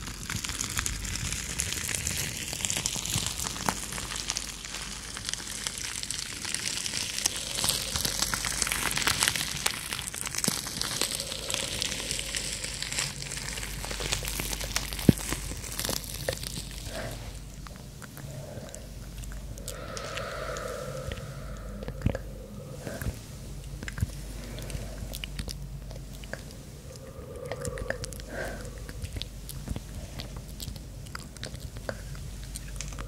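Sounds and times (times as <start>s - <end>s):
bubble wrap crinkling and crackling: 0.0s - 33.0s.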